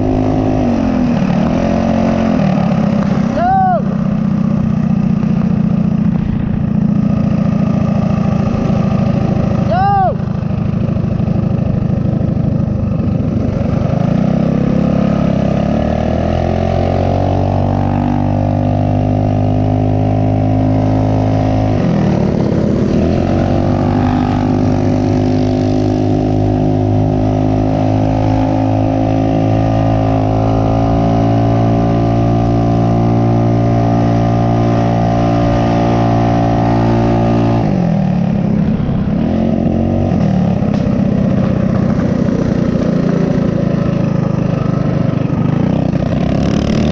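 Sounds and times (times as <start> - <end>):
mini bike engine accelerating: 0.0 - 46.9.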